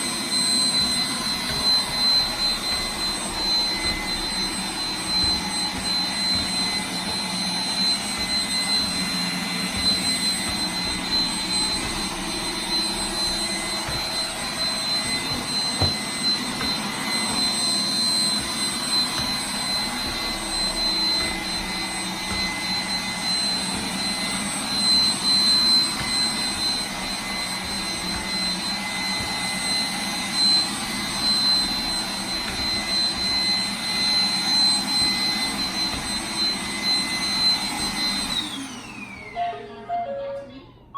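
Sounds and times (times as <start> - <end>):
robot vacuum whirring: 0.0 - 39.6.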